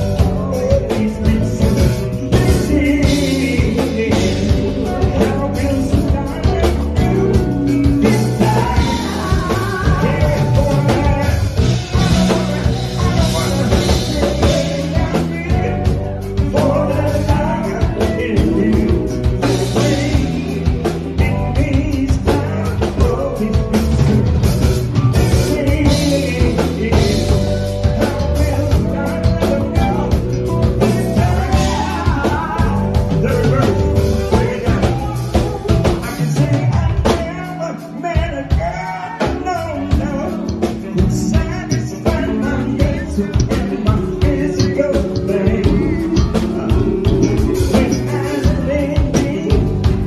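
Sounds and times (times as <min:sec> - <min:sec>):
lead vocals singing: 0:00.0 - 0:50.0
live band playing: 0:00.0 - 0:50.0.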